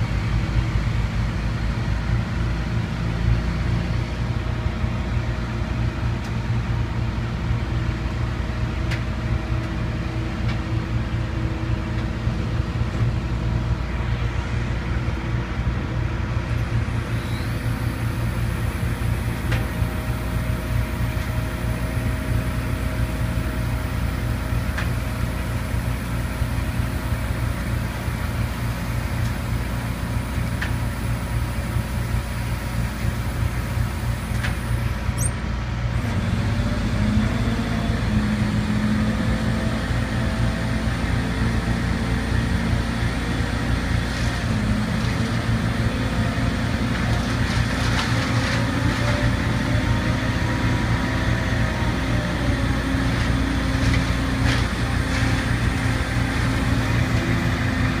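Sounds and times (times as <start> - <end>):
crane engine running: 0.0 - 58.0.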